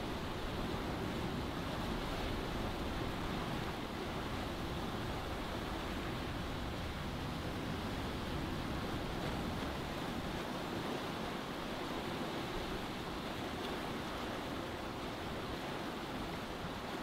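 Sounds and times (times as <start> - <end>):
sea water rushing: 0.0 - 17.0
wind: 0.0 - 17.0.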